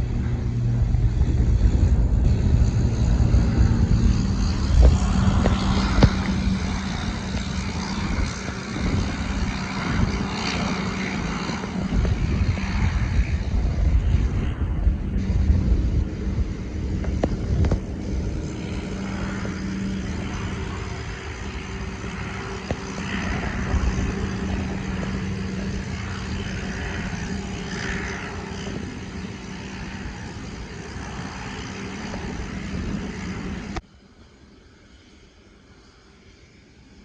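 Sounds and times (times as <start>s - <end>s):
aircraft engine roaring: 0.0s - 37.0s
wind buffeting microphone: 0.0s - 37.0s.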